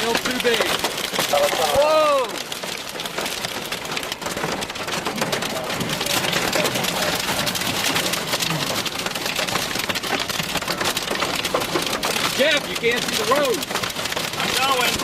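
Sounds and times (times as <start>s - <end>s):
hail and rain pounding vehicle roof: 0.0s - 15.0s.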